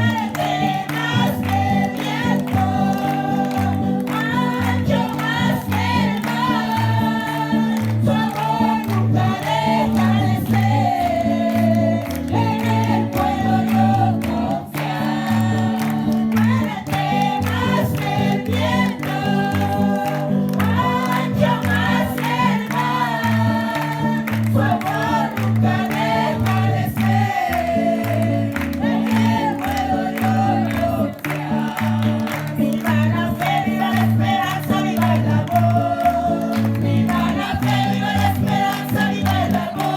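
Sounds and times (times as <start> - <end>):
group singing worship song: 0.0 - 39.9.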